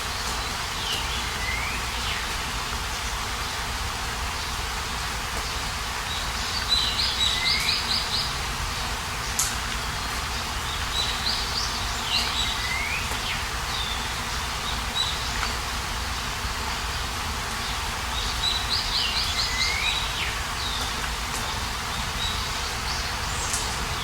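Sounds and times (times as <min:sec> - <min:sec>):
songbird singing: 0:00.0 - 0:03.6, 0:05.4 - 0:24.0.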